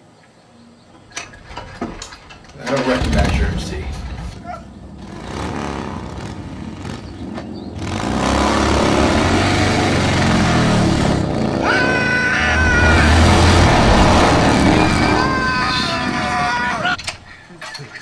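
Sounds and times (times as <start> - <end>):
vehicle engines running: 1.1 - 18.0.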